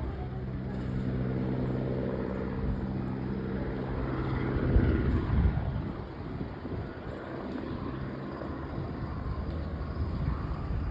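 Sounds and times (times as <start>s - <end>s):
helicopter rotor drone: 0.0s - 10.9s.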